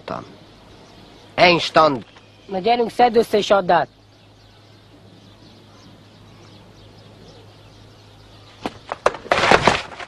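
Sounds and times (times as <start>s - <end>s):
faint high chirps: 0.0s - 9.0s
low steady hum: 0.0s - 10.0s.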